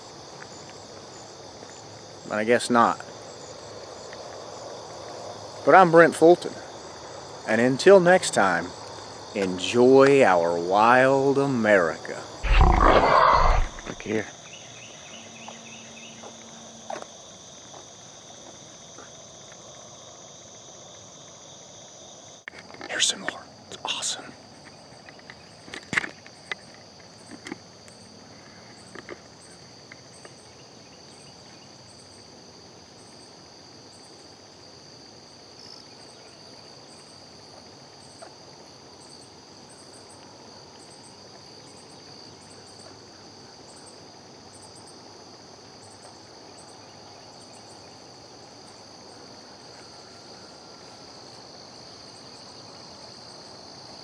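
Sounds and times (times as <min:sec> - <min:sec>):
insect chirp: 0:00.0 - 0:54.0
insects trilling: 0:00.0 - 0:54.0.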